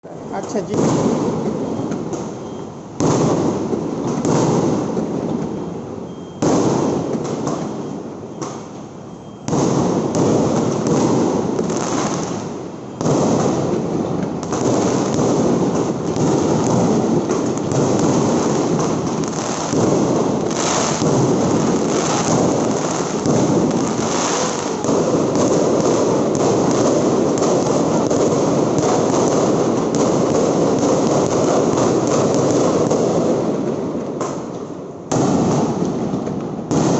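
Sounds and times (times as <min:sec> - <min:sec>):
fireworks bangs: 0:00.0 - 0:36.9.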